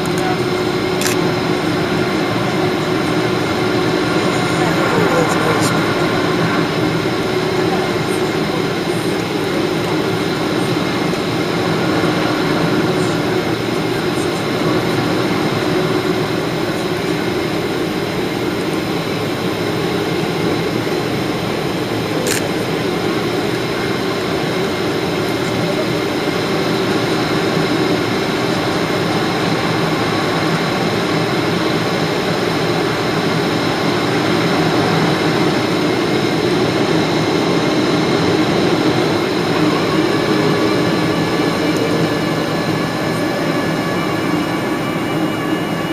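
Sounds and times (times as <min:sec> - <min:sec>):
airplane cabin engine roar: 0:00.0 - 0:45.9.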